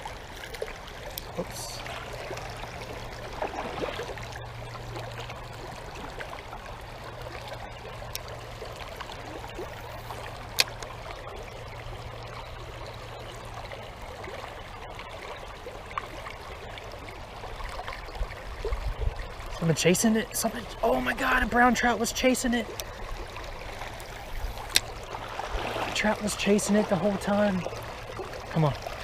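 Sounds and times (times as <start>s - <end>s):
creek water babbling: 0.0s - 29.0s.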